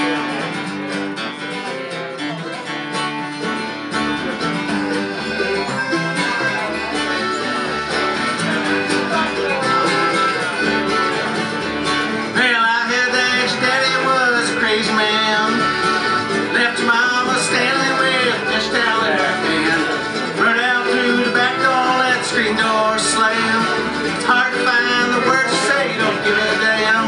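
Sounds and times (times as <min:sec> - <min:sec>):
strummed acoustic guitar: 0:00.0 - 0:27.0
person singing: 0:04.2 - 0:27.0.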